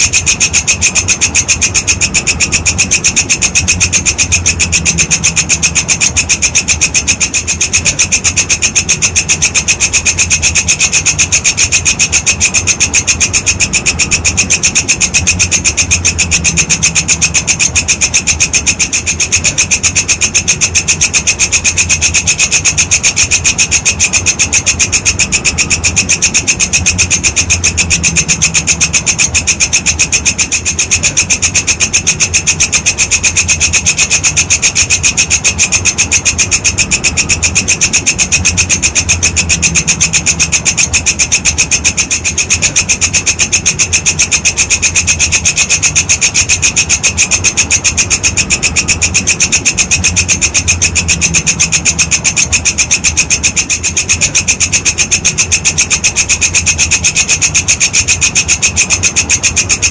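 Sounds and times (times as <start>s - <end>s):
insect raspy chirping: 0.0s - 59.9s
low background hum: 0.0s - 59.9s.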